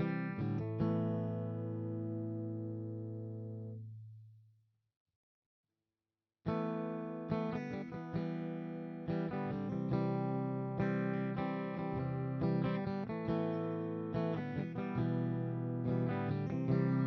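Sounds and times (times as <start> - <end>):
electric guitar strumming chords: 0.0 - 3.8, 6.5 - 17.0.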